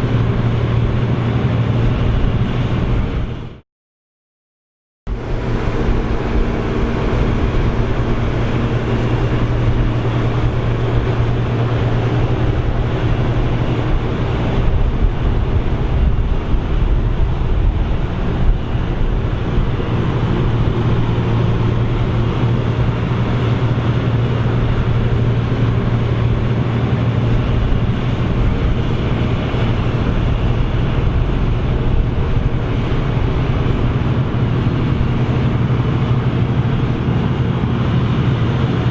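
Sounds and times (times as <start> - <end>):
heavy engine hum: 0.0 - 3.6, 5.1 - 38.9.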